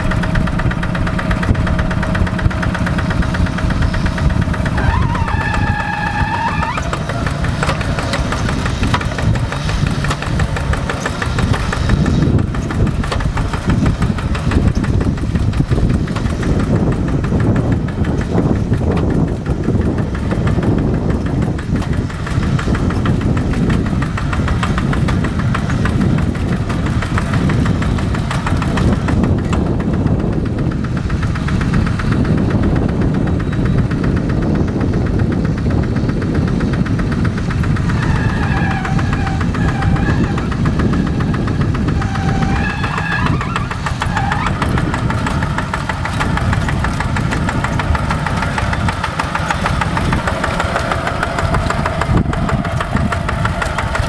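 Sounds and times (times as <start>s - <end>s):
tractor diesel engine chugging: 0.0s - 54.0s.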